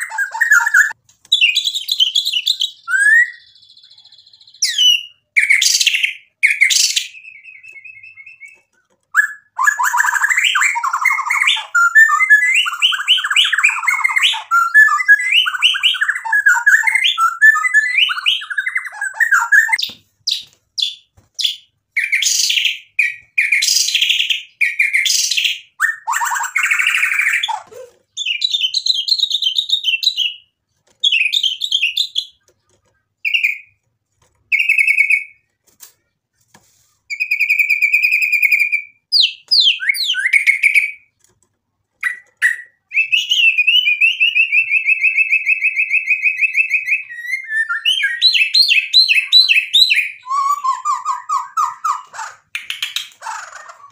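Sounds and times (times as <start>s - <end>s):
bird singing varied song: 0.0s - 33.9s, 37.1s - 41.2s, 42.0s - 53.9s.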